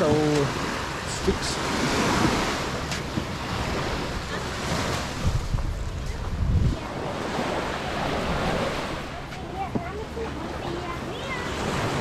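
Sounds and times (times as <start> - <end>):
waves washing on beach: 0.0 - 12.0
wind buffeting microphone: 0.0 - 12.0.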